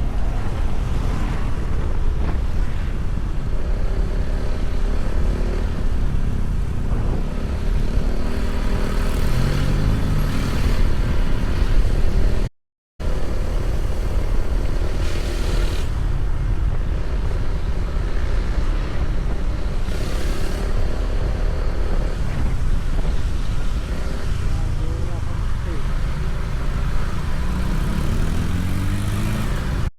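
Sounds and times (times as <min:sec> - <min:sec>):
vehicle engine and road rumble: 0:00.0 - 0:29.9.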